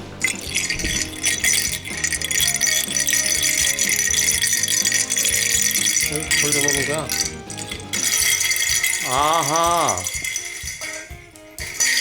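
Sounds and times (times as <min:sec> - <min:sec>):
background music: 0:00.0 - 0:12.0
rattle toy shaking: 0:00.2 - 0:12.0.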